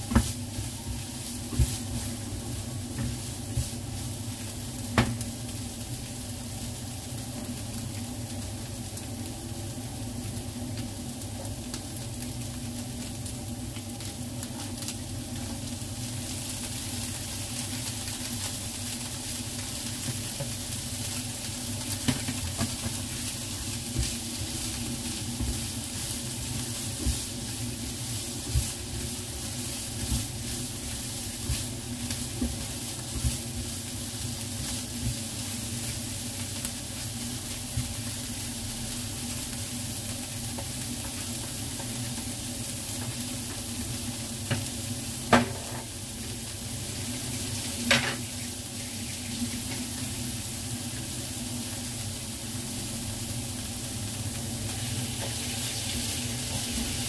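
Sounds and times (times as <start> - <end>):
meat and onions sizzling in a pan: 0.0 - 57.0.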